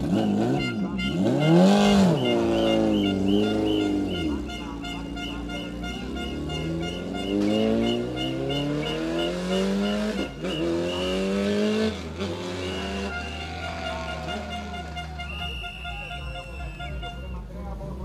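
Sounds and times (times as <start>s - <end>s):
race car engine accelerating: 0.0s - 15.4s.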